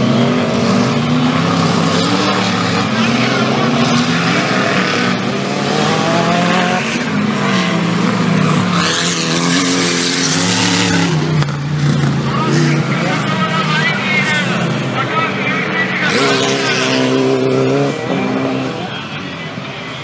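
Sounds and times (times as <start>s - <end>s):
off-road engines revving: 0.0s - 20.0s.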